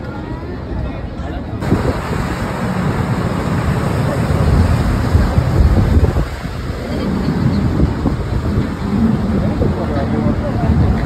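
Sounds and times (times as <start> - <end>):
wind buffeting microphone: 1.6 - 11.0.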